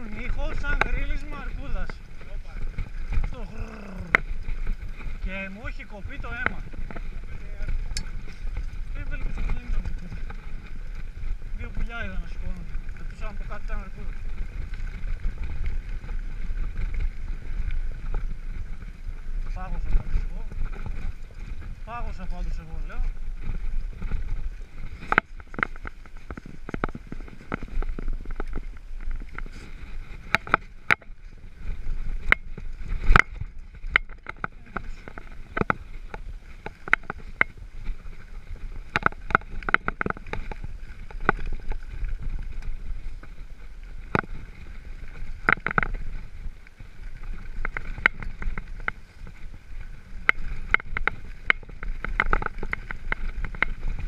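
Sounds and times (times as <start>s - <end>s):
bike clicks and rattles: 0.0s - 54.0s
bike tyres rumbling on gravel: 0.0s - 54.0s.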